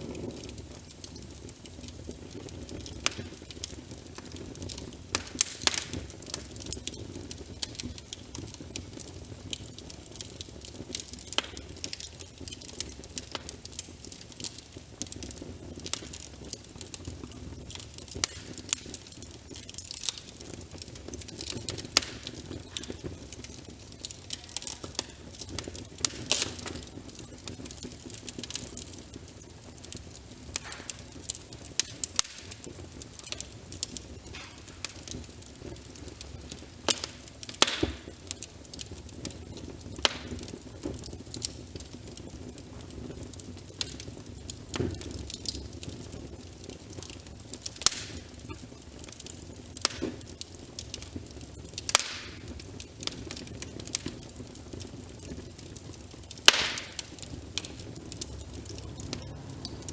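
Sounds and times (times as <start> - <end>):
rain pattering: 0.0 - 59.9
wood fire crackling: 0.0 - 59.9.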